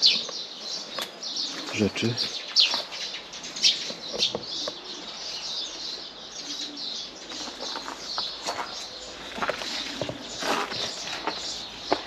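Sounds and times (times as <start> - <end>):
pigeon cooing: 0.0 - 12.0
small birds chirping: 0.0 - 12.0.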